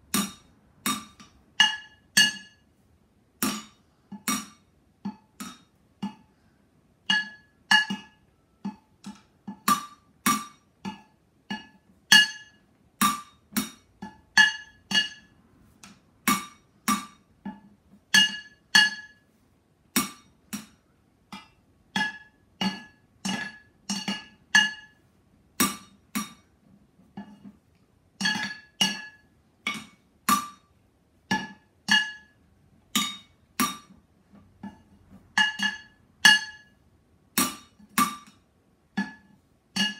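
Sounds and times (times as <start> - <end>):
drumsticks hitting cooking pots: 0.0 - 2.6, 3.4 - 6.4, 7.0 - 19.2, 19.9 - 25.0, 25.6 - 26.5, 28.2 - 30.7, 31.3 - 36.7, 37.3 - 39.9.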